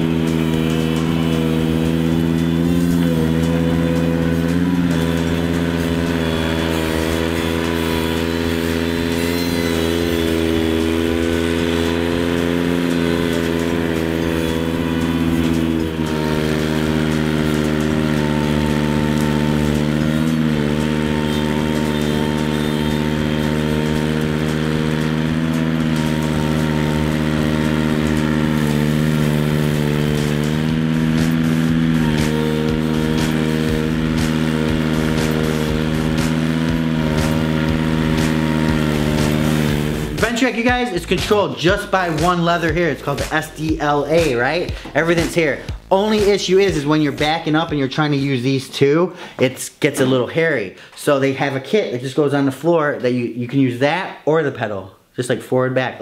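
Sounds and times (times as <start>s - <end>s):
tractor engine running: 0.0s - 48.7s.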